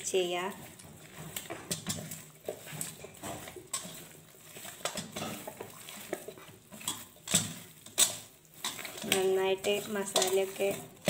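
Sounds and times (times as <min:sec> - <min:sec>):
meat scraping metal bowl: 0:00.0 - 0:11.0.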